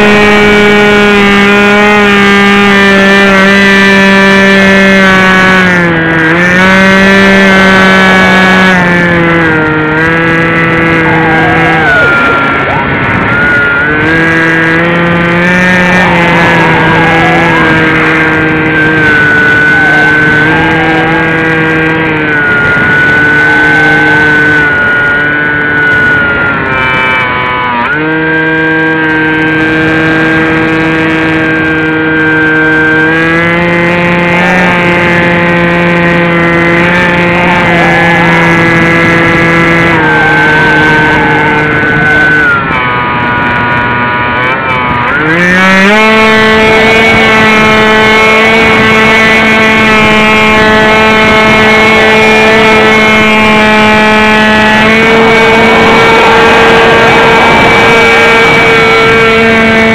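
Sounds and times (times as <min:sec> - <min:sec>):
model airplane motor whine: 0:00.0 - 0:59.9.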